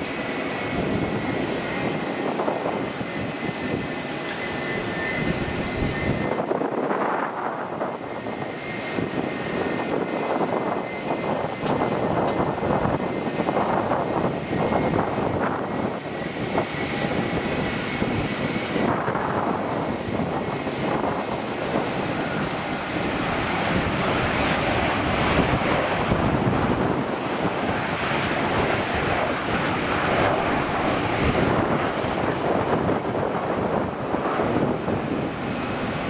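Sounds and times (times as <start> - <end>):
jet engine rumble: 0.0 - 36.0.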